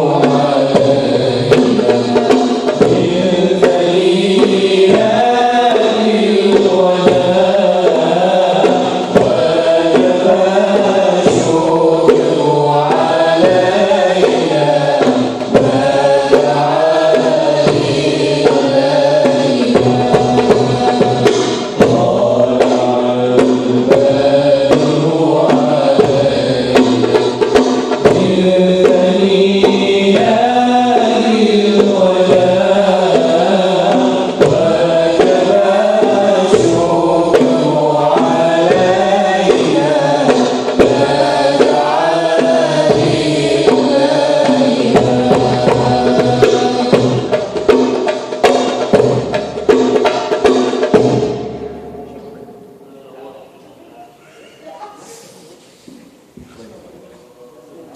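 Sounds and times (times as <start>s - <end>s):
group singing devotional chant: 0.0s - 57.9s.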